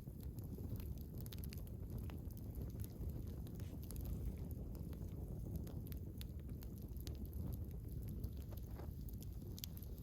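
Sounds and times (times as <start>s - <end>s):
campfire crackling: 0.0s - 10.0s
fire popping: 0.0s - 10.0s.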